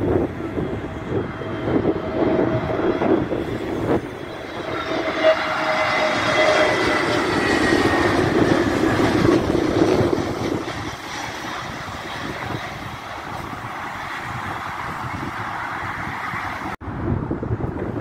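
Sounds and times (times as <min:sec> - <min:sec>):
jet airliner passing overhead: 0:00.0 - 0:18.0
wind gusts on microphone: 0:00.0 - 0:18.0.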